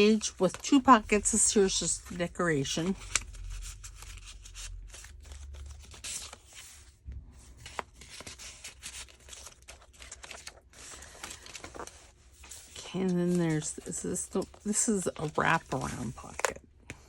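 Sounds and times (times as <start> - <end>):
paper rustling and crinkling: 0.0 - 16.6.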